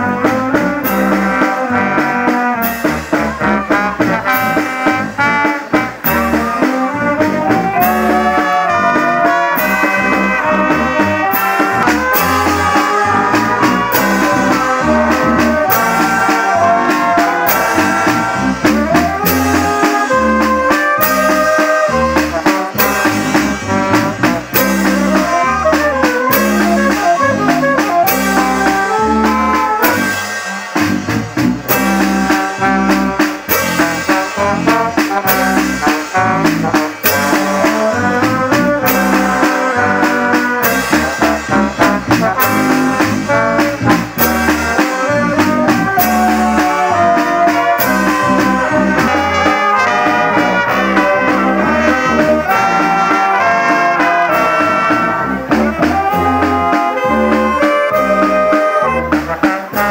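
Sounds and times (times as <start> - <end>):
low bass notes: 0.0 - 59.9
snare drum and cymbals beat: 0.0 - 59.9
wind band melody: 0.0 - 59.9.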